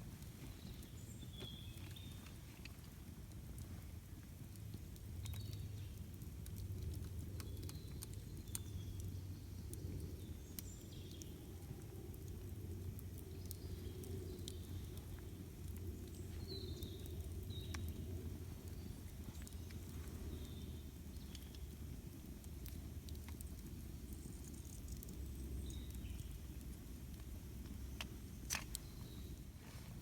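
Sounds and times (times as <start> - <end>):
campfire crackling and popping: 0.0 - 30.0
low steady rumble: 0.0 - 30.0
small birds chirping: 0.2 - 30.0.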